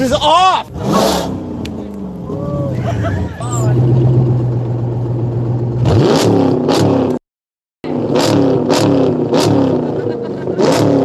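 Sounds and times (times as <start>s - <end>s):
car engine idling and revving: 0.0s - 7.2s, 7.8s - 11.0s.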